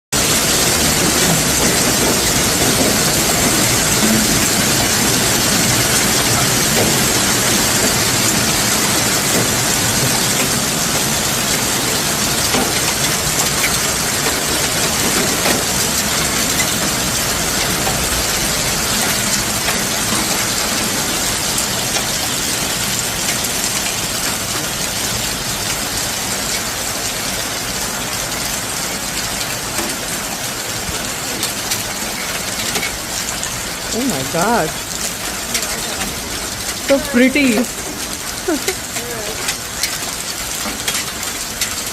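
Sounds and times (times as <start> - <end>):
hail and rain pelting: 0.2 - 41.9.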